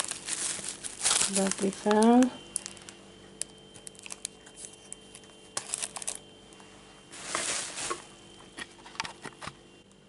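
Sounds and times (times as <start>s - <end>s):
plastic packaging crinkling: 0.0s - 6.3s, 7.2s - 9.2s.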